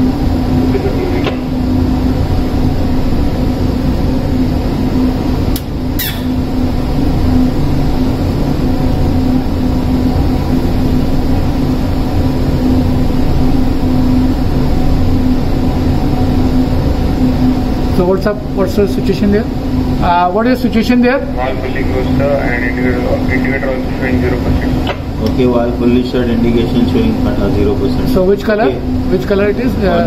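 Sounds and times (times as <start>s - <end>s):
ship machinery humming: 0.0s - 30.0s.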